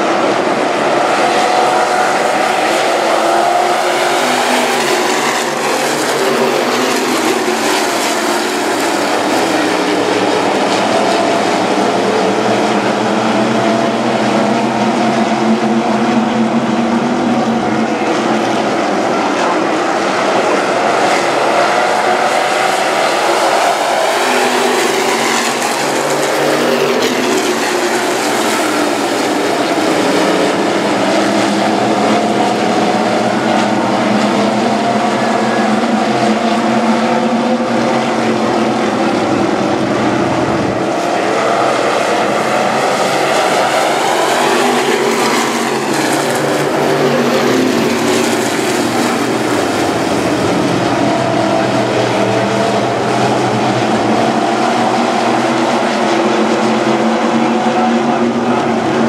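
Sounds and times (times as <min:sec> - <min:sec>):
race car engines roaring: 0:00.0 - 0:59.0.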